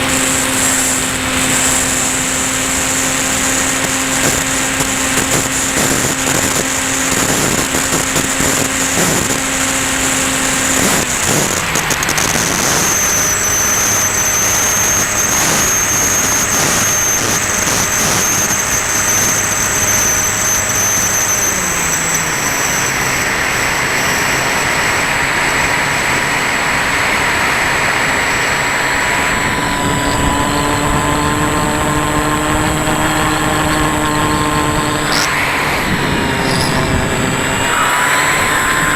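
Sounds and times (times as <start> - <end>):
rc plane electric motor: 0.0 - 38.9.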